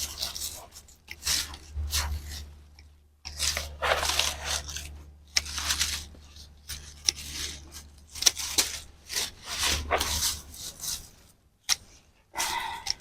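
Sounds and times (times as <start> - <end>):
low steady hum: 0.0 - 13.0
rustling and scraping of vines and soil: 0.0 - 13.0.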